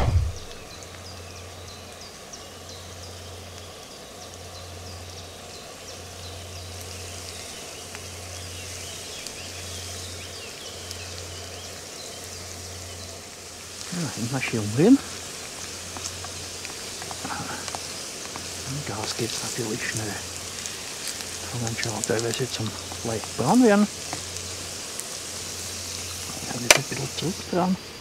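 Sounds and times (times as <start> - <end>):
birds chirping: 0.0 - 28.0
potatoes sizzling in oil: 0.4 - 28.0.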